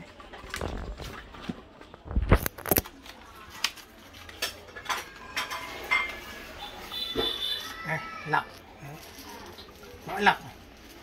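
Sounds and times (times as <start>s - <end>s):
plastic bags rustling: 0.0s - 11.0s.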